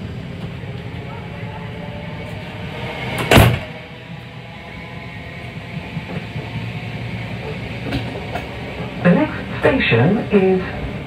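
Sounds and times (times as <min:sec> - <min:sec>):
low hum: 0:00.0 - 0:10.8
passing train rush: 0:00.0 - 0:11.0
train wheels rumbling on track: 0:00.0 - 0:11.0.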